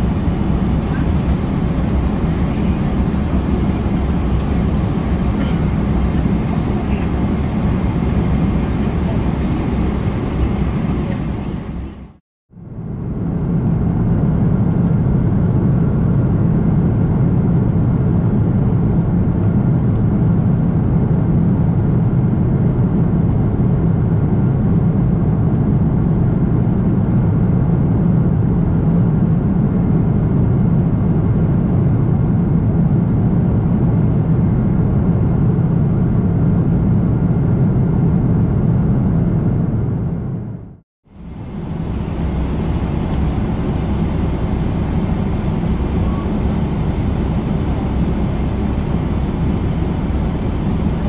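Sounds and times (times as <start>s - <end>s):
airplane cabin drone: 0.0s - 51.0s.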